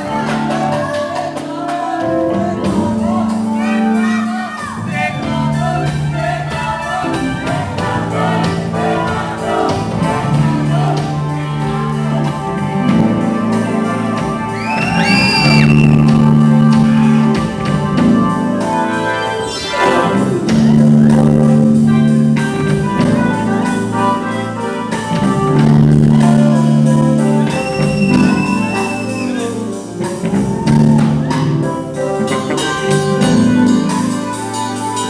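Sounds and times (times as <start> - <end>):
sliding high notes: 3.5 - 35.0.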